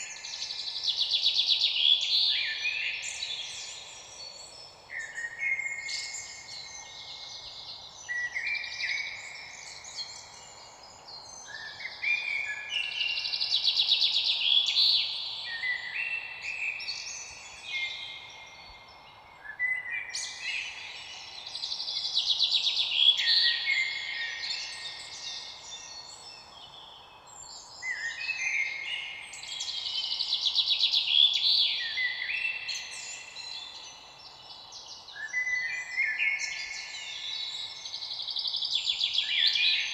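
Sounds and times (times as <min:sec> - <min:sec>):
birdsong chirping and trills: 0:00.0 - 0:39.9.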